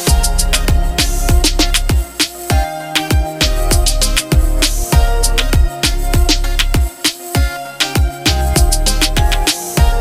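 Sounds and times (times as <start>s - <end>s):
background music with beat: 0.0s - 10.0s
deep kick drum: 0.1s - 10.0s.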